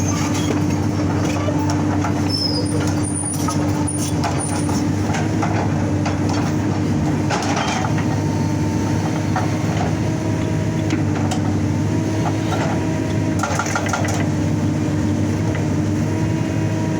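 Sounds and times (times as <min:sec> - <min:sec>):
excavator diesel engine: 0:00.0 - 0:16.9.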